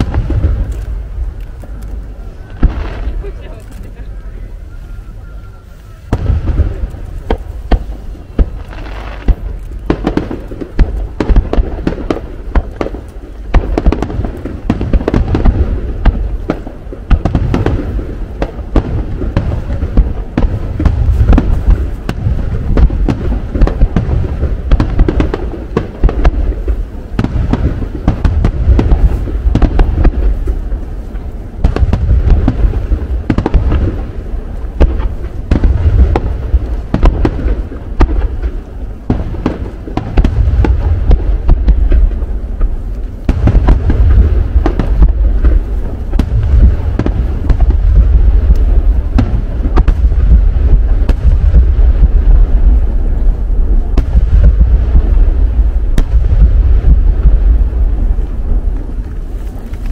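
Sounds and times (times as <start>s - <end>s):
continuous low rumble: 0.0s - 59.9s
fireworks booming: 0.0s - 59.9s.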